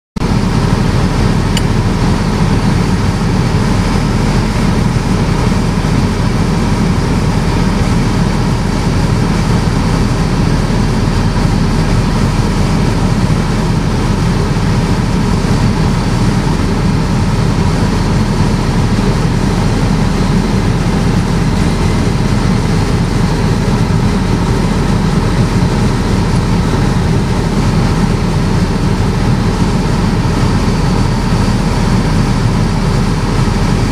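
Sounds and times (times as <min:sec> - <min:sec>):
airflow noise: 0:00.2 - 0:33.9
propeller aircraft engine drone: 0:00.2 - 0:33.9.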